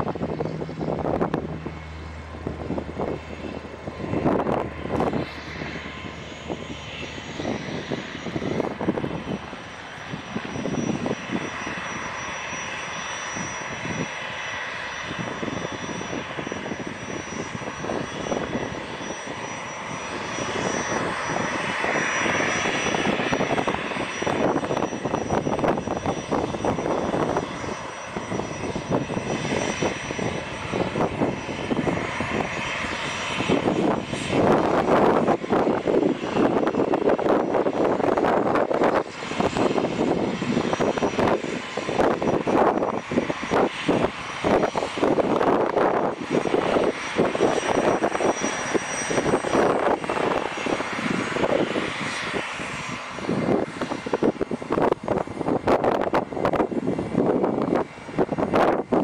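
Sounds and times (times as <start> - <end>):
high-pitched whine: 0.0 - 58.9
aircraft engine running: 0.0 - 59.0.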